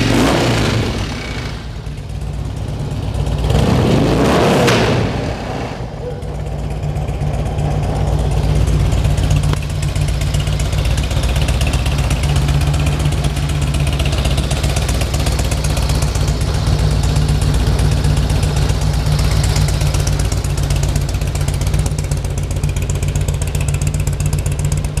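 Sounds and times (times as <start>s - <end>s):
motorcycle engine idling: 0.0s - 3.6s, 5.8s - 25.0s.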